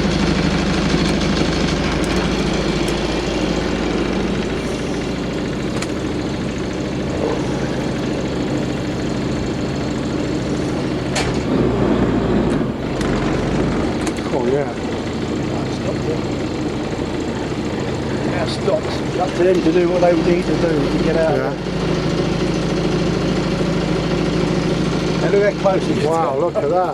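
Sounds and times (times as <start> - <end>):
boat engine humming: 0.0 - 26.9.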